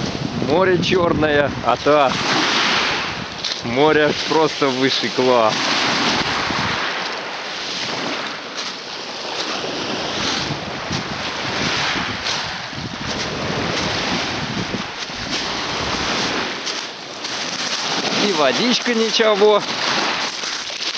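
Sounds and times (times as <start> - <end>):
wind on microphone: 0.0 - 20.6
waves breaking on pebbles: 1.4 - 20.9.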